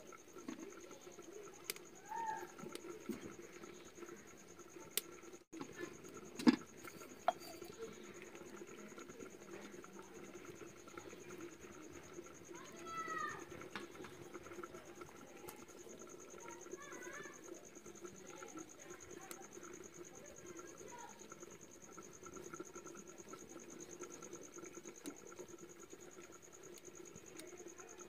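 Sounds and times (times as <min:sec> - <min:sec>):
insect trilling: 0:00.0 - 0:28.0.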